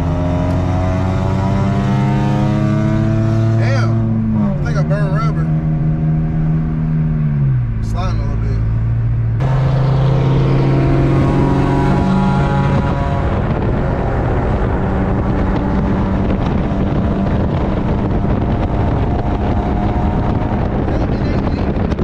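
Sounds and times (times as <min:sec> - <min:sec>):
car engine from inside cabin: 0:00.0 - 0:22.0
road and wind noise: 0:00.0 - 0:22.0.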